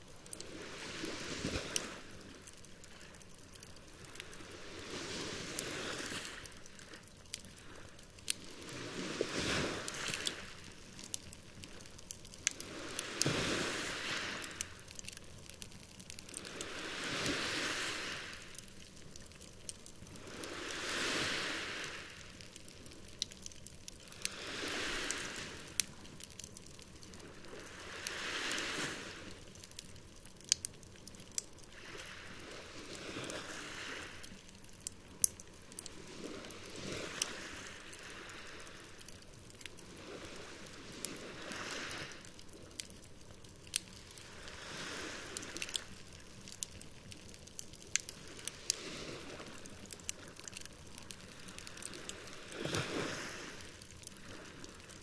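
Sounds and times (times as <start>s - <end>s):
campfire crackling and popping: 0.0s - 55.0s
sea waves washing onto shore: 0.0s - 55.0s.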